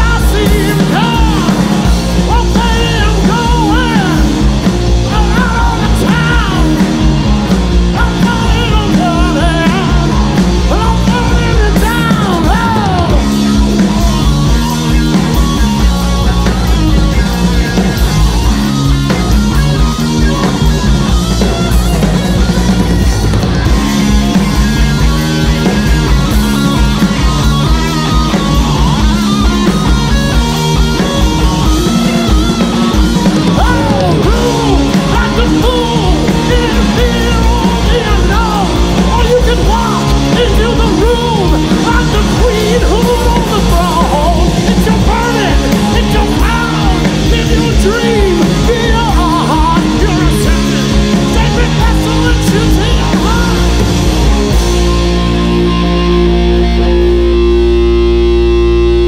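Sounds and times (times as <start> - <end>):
bending sliding guitar melody: 0.0 - 59.0
loud rock band playing: 0.0 - 59.0.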